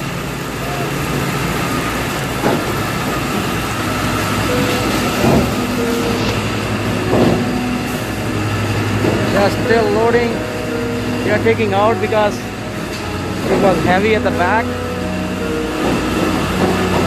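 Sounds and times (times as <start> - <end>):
conveyor machinery humming: 0.0 - 17.0.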